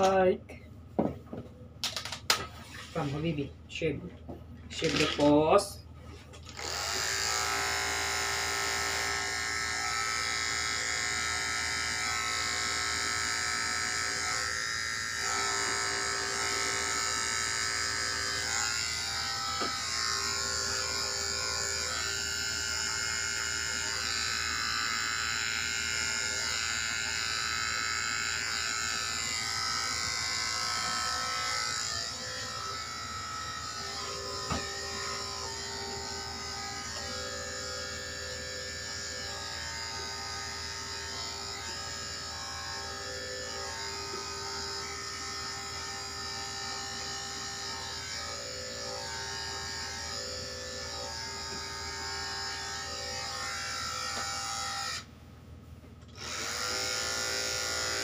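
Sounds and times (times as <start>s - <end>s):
electric clippers buzzing: 6.4s - 55.1s, 56.1s - 58.0s.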